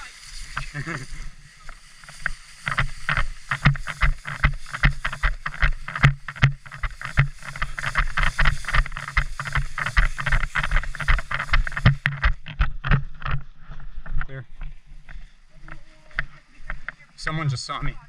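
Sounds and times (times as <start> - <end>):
clothing brushing microphone: 0.0 - 17.4
footsteps crunching through brush: 0.0 - 18.0.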